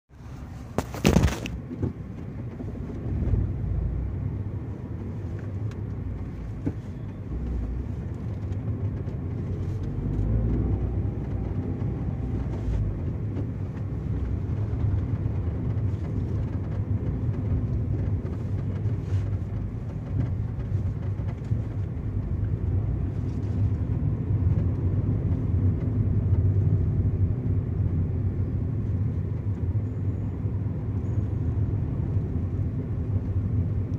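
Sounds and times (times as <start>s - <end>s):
road and engine rumble: 0.1s - 33.9s.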